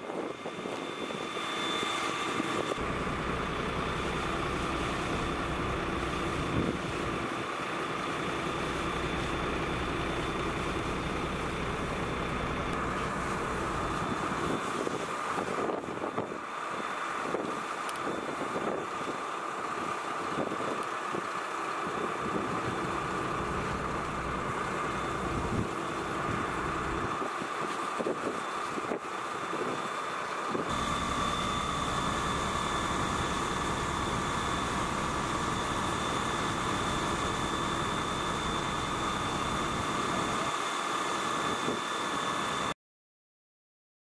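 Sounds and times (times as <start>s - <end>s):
fire engine pump humming: 0.0s - 42.7s
high whine: 0.0s - 42.8s.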